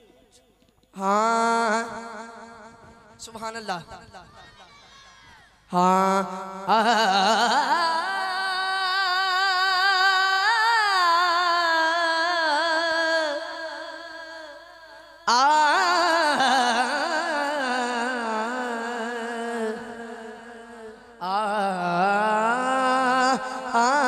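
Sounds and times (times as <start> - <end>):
man singing melismatic notes: 0.0 - 4.4, 5.7 - 24.0.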